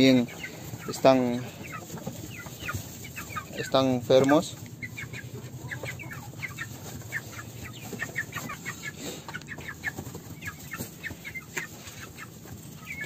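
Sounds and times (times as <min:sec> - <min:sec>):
young chickens peeping and clucking: 0:00.0 - 0:13.0.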